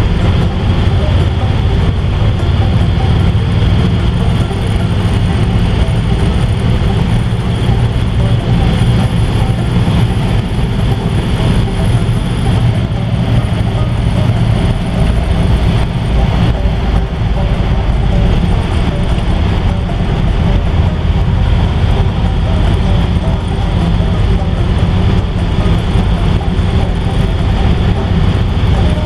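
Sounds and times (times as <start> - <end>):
car engine: 0.0 - 29.0
road noise: 0.0 - 29.0.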